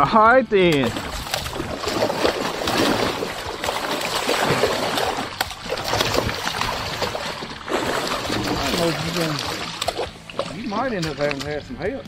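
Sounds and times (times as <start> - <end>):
water splashing and sloshing: 0.7 - 12.0.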